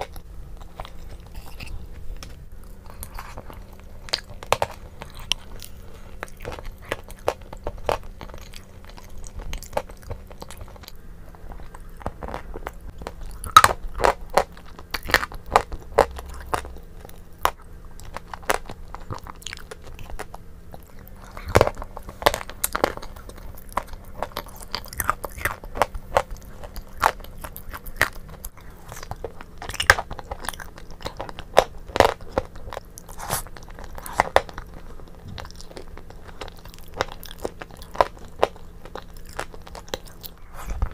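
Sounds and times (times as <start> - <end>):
wet chewing and crunching: 0.0 - 40.9.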